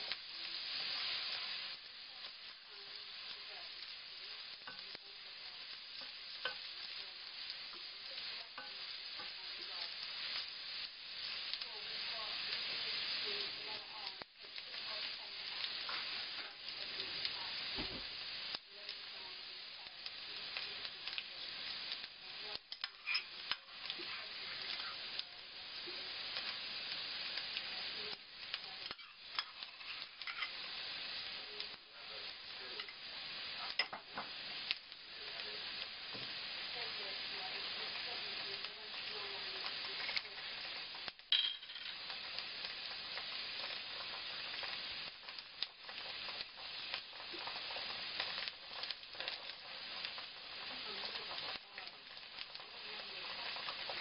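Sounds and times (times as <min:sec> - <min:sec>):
onion sizzling in a wok: 0:00.0 - 0:54.0.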